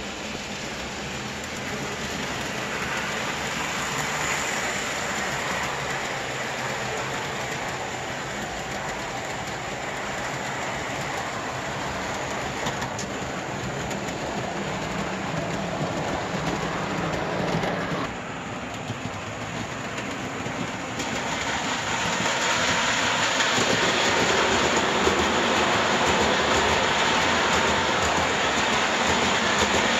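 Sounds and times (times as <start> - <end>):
model train wheels rolling on rails: 0.0 - 29.9.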